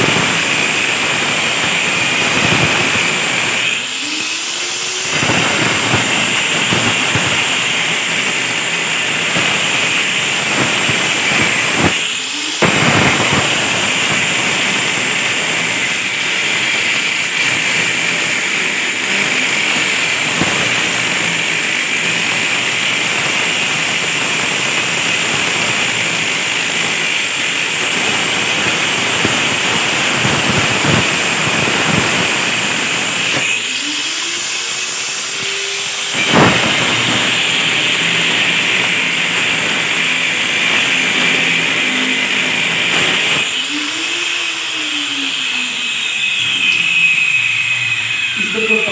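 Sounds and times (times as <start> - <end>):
angle grinder cutting brick: 0.0 - 48.9.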